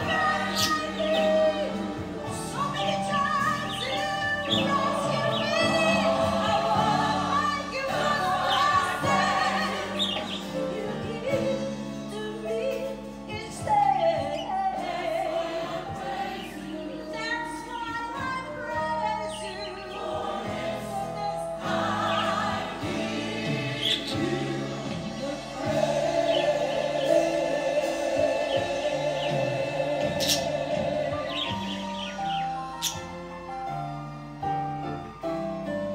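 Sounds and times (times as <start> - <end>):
gospel choir singing: 0.0 - 33.2.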